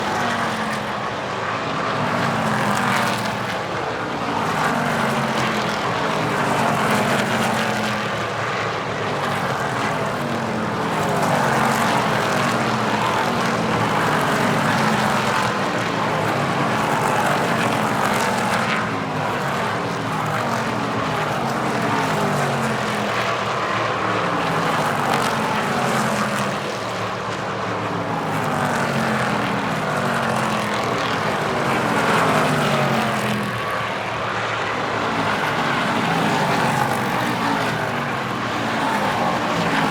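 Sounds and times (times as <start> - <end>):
race truck engines passing: 0.0 - 39.9.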